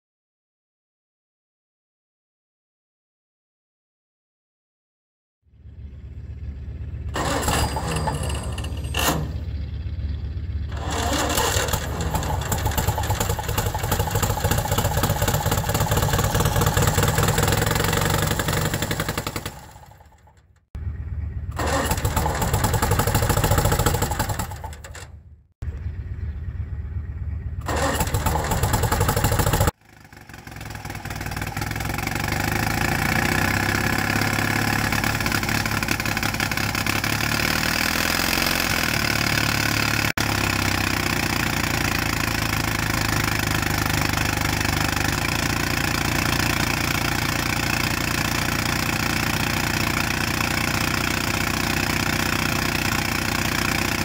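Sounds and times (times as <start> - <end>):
bulldozer engine running: 5.5 - 54.0.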